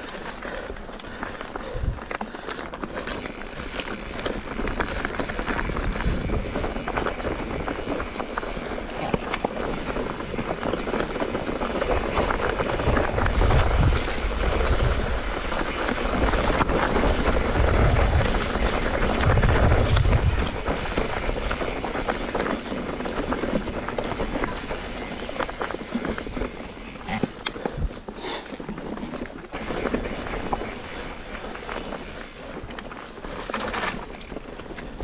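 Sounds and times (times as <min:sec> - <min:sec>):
bike tyres clattering over trail: 0:00.0 - 0:35.0
wind rumbling on microphone: 0:00.0 - 0:35.0.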